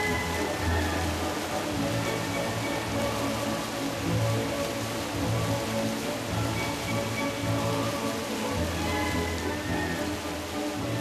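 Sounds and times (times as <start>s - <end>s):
fountain water splashing: 0.0s - 11.0s
music playing: 0.0s - 11.0s.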